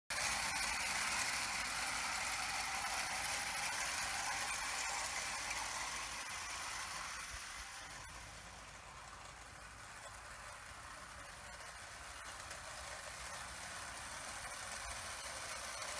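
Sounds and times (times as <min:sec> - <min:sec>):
toy train rolling on track: 0:00.1 - 0:15.9.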